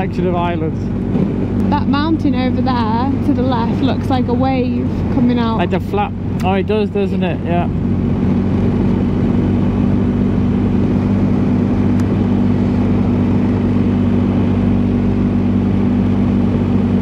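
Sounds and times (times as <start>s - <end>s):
motorcycle engine cruising: 0.0s - 17.0s
road noise: 0.0s - 17.0s.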